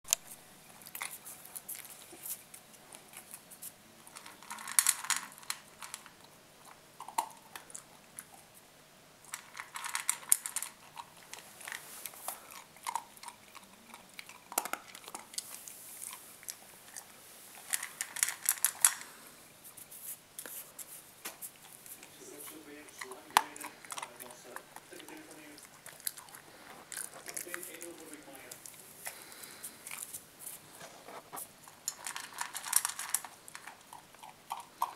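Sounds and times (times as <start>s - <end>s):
dog crunching dry kibble: 0.1s - 8.6s, 9.2s - 19.2s, 20.4s - 34.9s.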